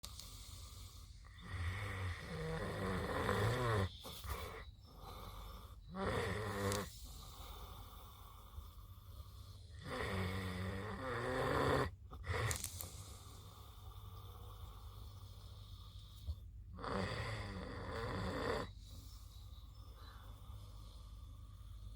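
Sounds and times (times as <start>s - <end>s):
pig snoring: 0.0s - 19.2s
quiet breaths: 0.0s - 21.9s.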